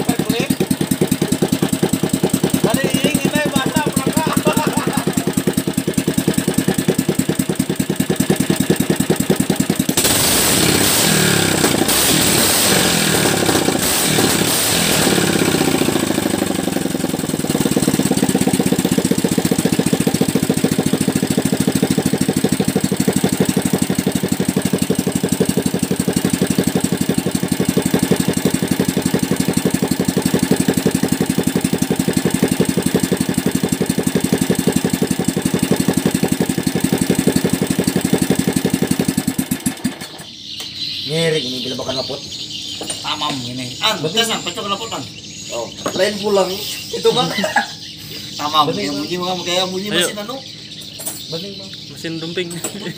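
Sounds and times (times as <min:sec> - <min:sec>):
small petrol engine revving and idling: 0:00.0 - 0:41.1, 0:41.8 - 0:52.9.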